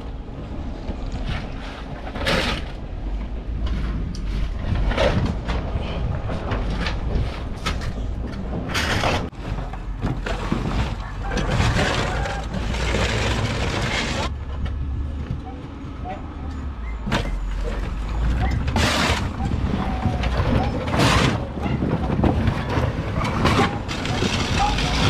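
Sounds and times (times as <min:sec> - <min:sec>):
shovels scraping truck bed: 0:01.1 - 0:14.4, 0:17.1 - 0:25.0.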